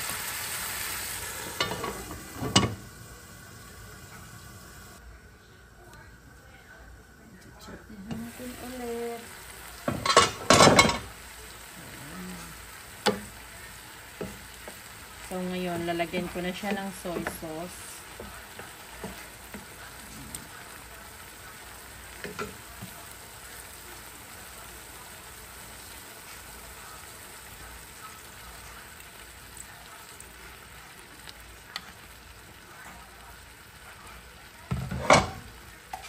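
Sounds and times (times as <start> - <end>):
meat sizzling in a frying pan: 0.0 - 5.0, 7.8 - 36.0.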